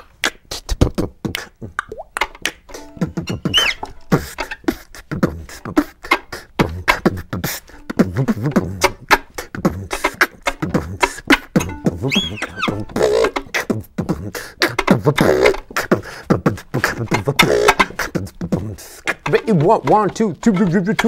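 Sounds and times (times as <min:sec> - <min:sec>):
man beatboxing: 0:00.0 - 0:21.0.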